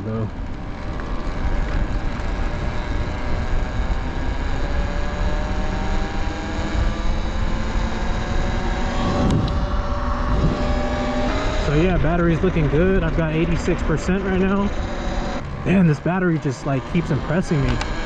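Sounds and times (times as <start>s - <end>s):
wind rumbling on microphone: 0.0s - 15.7s
electric motor whine: 0.4s - 18.0s.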